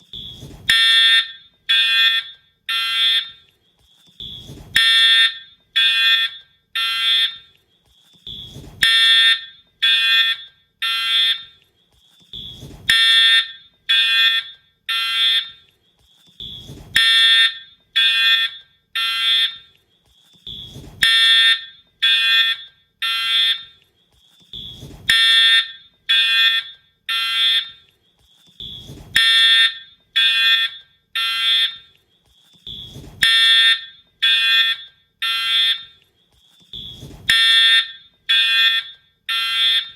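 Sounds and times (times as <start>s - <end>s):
fire alarm horn blasts: 0.0s - 3.5s, 4.2s - 7.6s, 8.2s - 11.6s, 12.3s - 15.7s, 16.4s - 19.8s, 20.4s - 23.8s, 24.5s - 27.9s, 28.6s - 32.0s, 32.6s - 36.0s, 36.7s - 39.9s.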